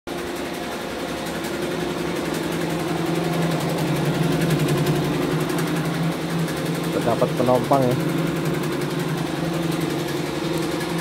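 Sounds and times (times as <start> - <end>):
embroidery machine motor hum: 0.1 - 11.0.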